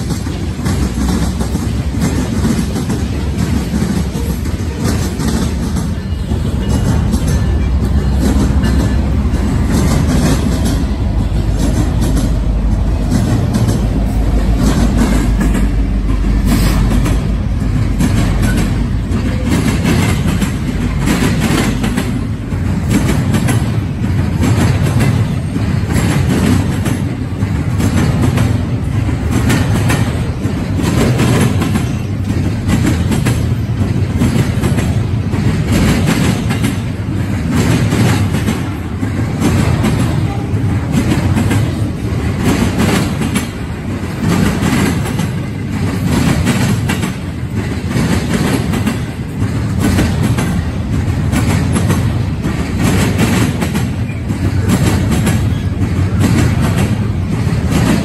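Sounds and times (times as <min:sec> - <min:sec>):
diesel locomotives rumbling: 0:00.0 - 0:58.0
train wheel clacks on rail joints: 0:00.0 - 0:58.0.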